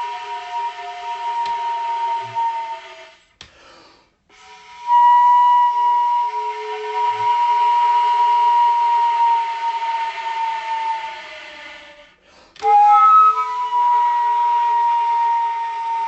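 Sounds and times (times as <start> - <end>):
music of long held tones: 0.0 - 3.4, 4.3 - 16.0.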